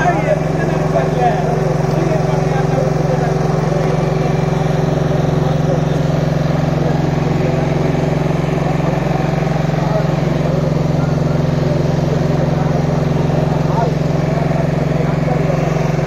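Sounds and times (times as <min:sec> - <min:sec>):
engine humming steadily: 0:00.0 - 0:16.0
faint voices: 0:00.0 - 0:16.0.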